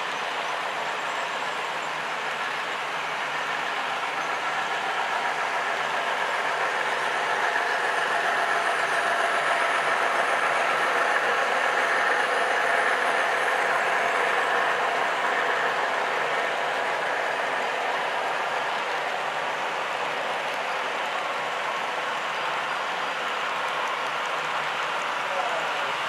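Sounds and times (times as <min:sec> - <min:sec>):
model train wheels rolling on rail: 0:00.0 - 0:26.0.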